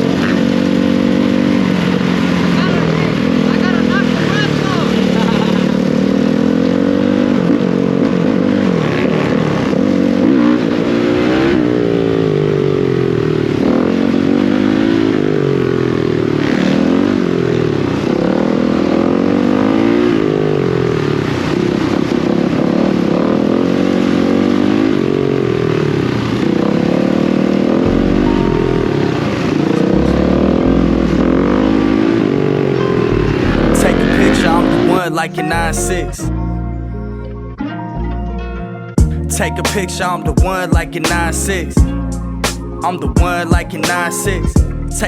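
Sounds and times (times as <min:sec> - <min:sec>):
dirt bike engine revving: 0:00.0 - 0:36.4.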